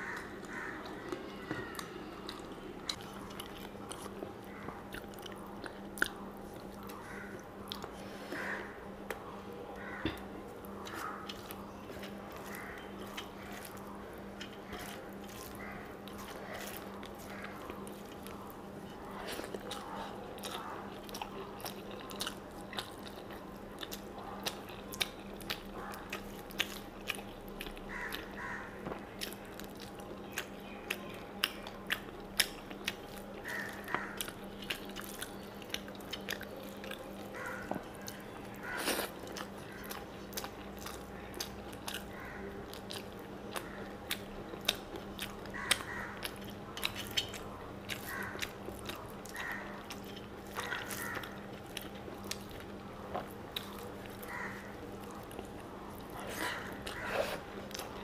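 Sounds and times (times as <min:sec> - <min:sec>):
low steady hum: 0:00.0 - 0:58.0
person chewing with wet smacks: 0:00.0 - 0:58.0.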